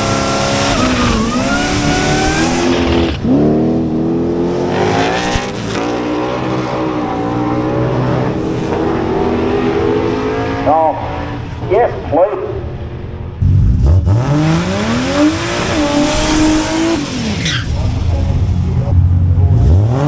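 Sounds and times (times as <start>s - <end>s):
car engine accelerating hard: 0.0s - 11.7s, 12.6s - 20.0s.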